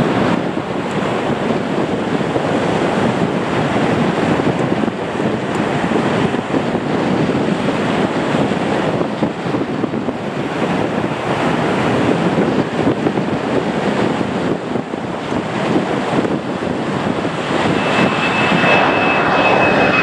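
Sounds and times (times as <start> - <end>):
jet engines roaring at takeoff: 0.0 - 20.0
wind buffeting microphone: 0.0 - 20.0.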